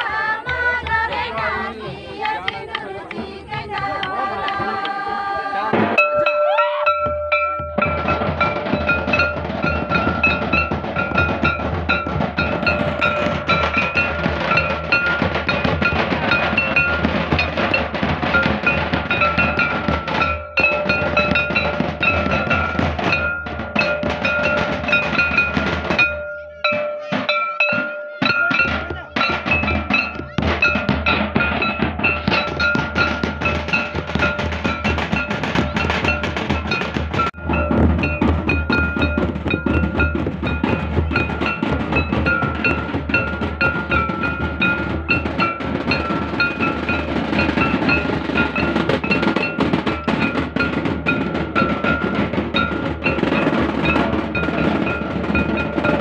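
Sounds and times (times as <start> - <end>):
barrel drums fast rhythm: 0.0 - 56.0.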